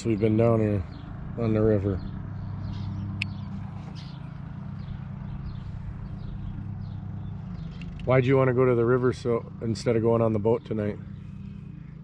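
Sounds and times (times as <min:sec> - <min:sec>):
birds chirping: 0:00.0 - 0:12.0
low hum: 0:00.0 - 0:12.0.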